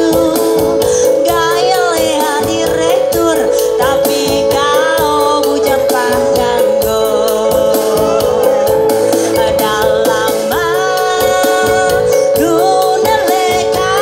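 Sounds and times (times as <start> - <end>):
held chords: 0.0 - 14.0
woman singing: 0.0 - 14.0
steady percussive beat: 2.2 - 14.0.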